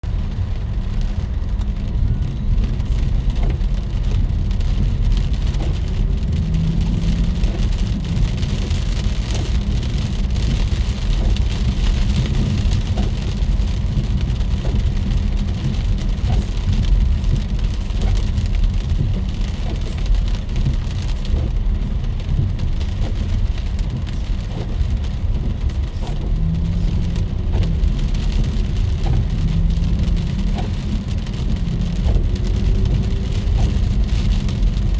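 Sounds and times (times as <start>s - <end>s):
heavy rain: 0.0s - 34.9s
low rumble: 0.0s - 34.9s.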